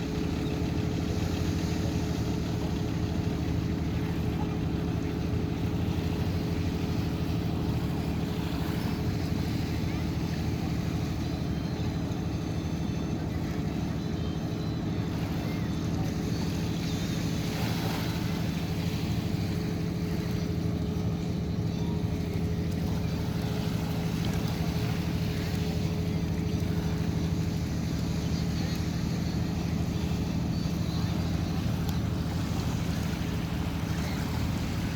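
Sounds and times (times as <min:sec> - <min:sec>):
boat engine droning: 0:00.0 - 0:34.9.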